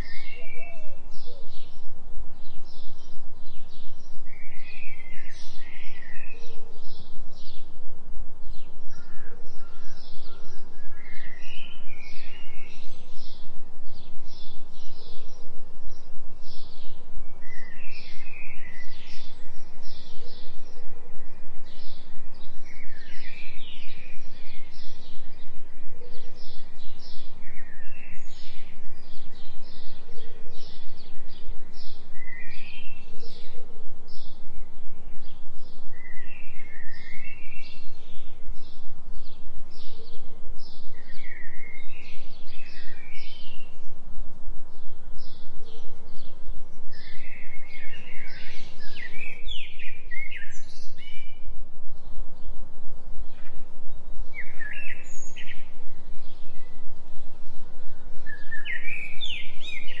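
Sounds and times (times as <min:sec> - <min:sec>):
low binaural hum: 0:00.0 - 1:00.0
songbirds chirping: 0:00.0 - 1:00.0.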